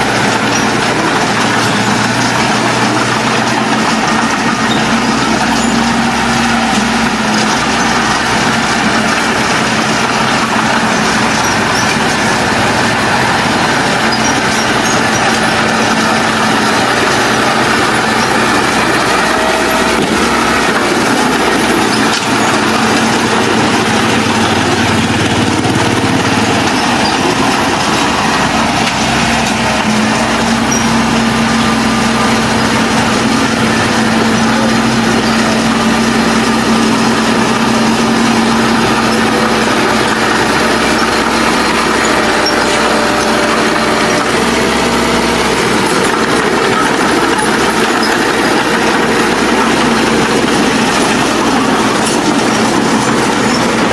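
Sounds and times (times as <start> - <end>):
heavy machine engine droning: 0.0 - 53.9.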